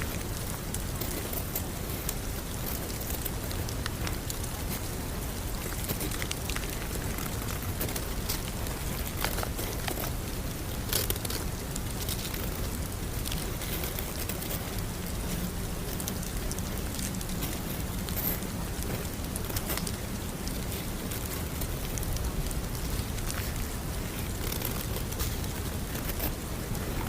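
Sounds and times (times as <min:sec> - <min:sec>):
rain-like patter: 0:00.0 - 0:27.0.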